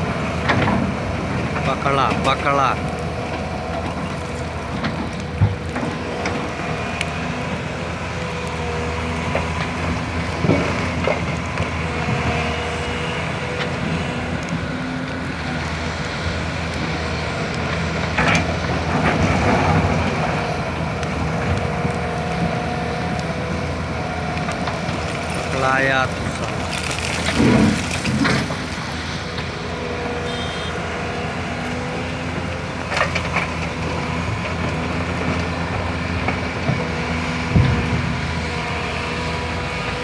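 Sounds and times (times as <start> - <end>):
diesel machinery running: 0.0 - 40.0.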